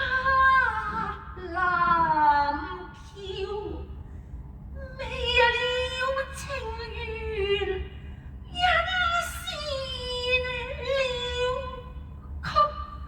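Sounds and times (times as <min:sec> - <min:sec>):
woman singing with vibrato: 0:00.0 - 0:04.0, 0:04.8 - 0:13.0.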